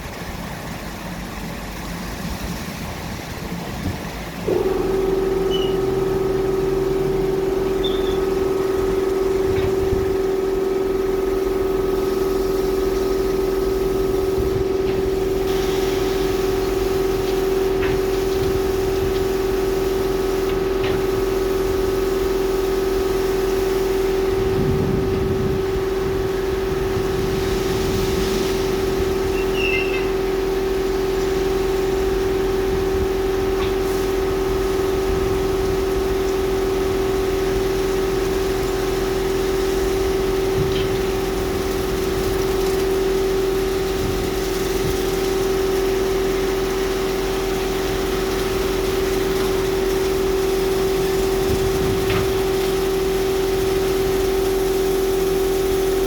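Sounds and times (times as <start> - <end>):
car wash motor humming: 0.0 - 56.0
low rumbling: 0.0 - 56.0.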